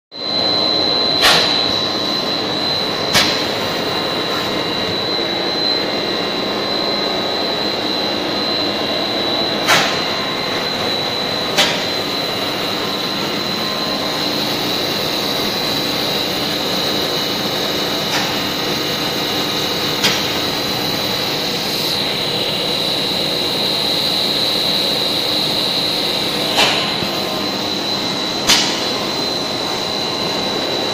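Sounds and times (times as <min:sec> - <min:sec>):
machinery high whine: 0:00.1 - 0:30.9.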